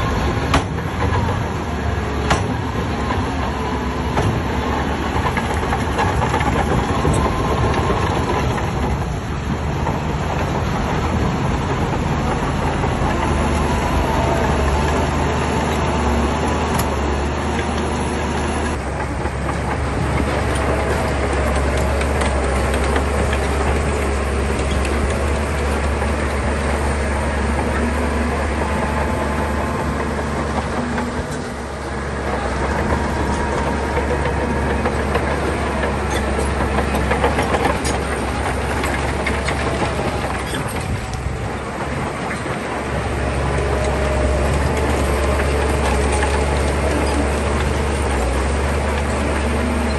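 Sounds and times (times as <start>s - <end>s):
bulldozer diesel engine rumble: 0.0s - 49.9s
bulldozer tracks clattering: 0.0s - 49.9s.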